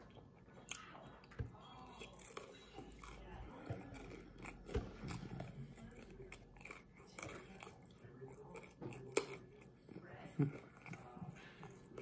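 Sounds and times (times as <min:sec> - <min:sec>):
chewing crispy food: 0:00.0 - 0:12.0.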